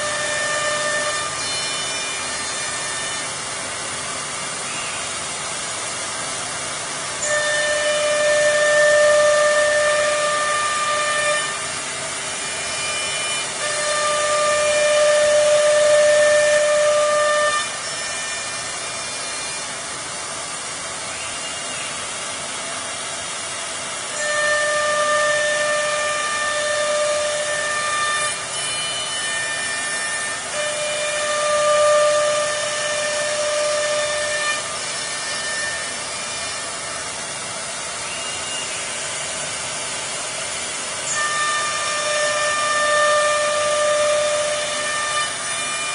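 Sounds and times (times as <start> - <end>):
router high whine: 0.0 - 45.9
steady rushing hiss: 0.0 - 45.9.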